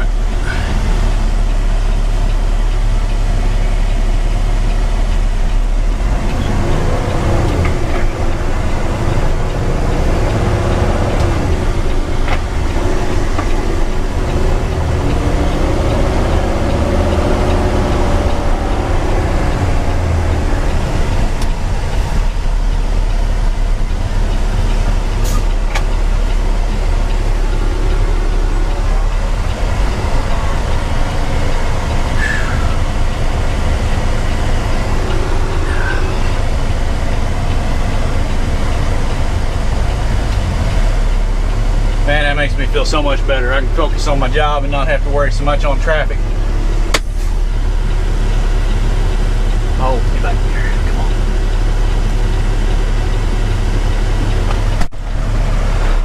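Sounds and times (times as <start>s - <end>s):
diesel truck engine rumble: 0.0s - 56.0s
road noise: 0.0s - 56.0s.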